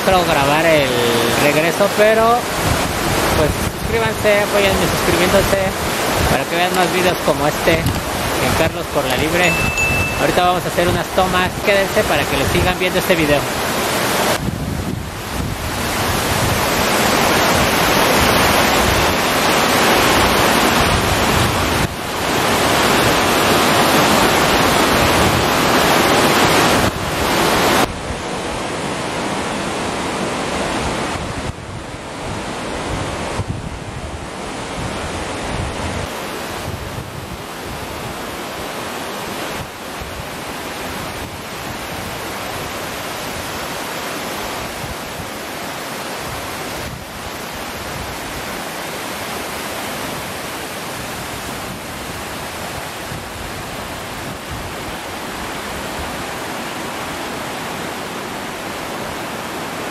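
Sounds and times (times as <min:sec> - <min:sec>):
waterfall rushing: 0:00.0 - 0:33.4, 0:34.2 - 0:59.9.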